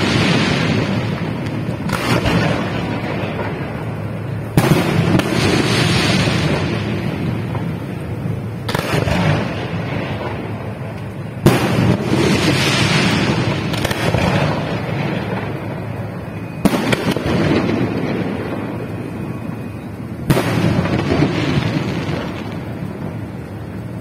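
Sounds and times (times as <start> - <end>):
fireworks crackling and rumbling: 0.0 - 24.0
sharp firework bangs: 0.0 - 24.0.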